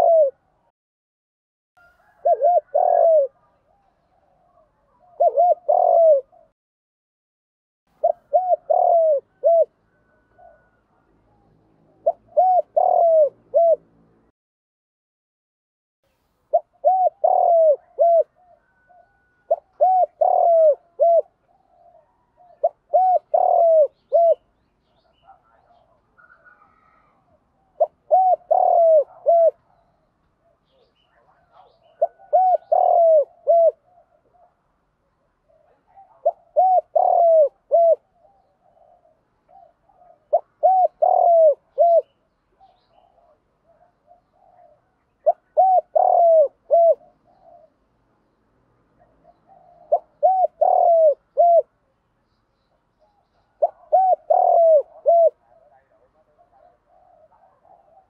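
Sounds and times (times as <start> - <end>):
dove cooing: 0.0 - 0.7, 1.8 - 6.5, 7.9 - 13.9, 16.5 - 34.7, 35.4 - 47.9, 49.0 - 51.8, 53.0 - 58.0.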